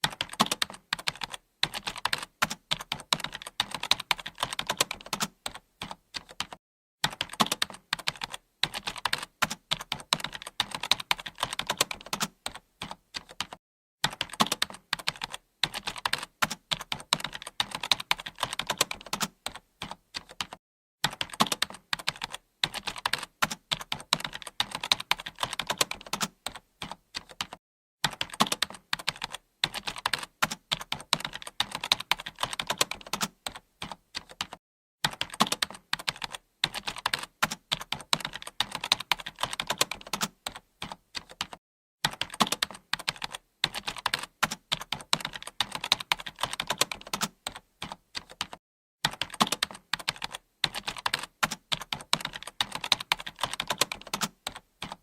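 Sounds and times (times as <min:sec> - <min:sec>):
keyboard typing: 0:00.0 - 0:55.0.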